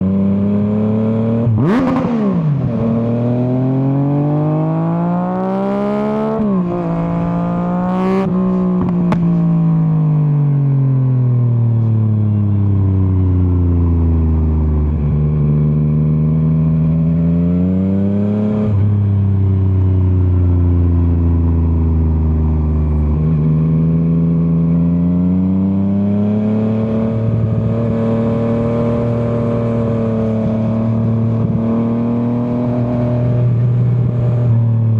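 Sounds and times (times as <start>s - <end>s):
motorcycle engine revving: 0.0s - 11.2s, 13.2s - 34.9s.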